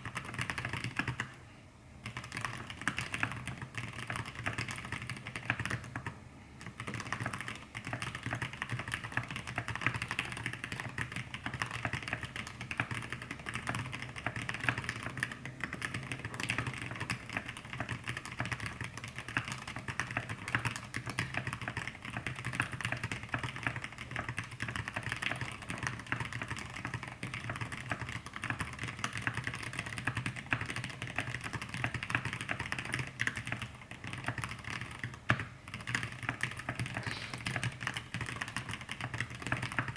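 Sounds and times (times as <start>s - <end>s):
mechanical keyboard typing: 0.0s - 1.4s, 2.0s - 39.9s.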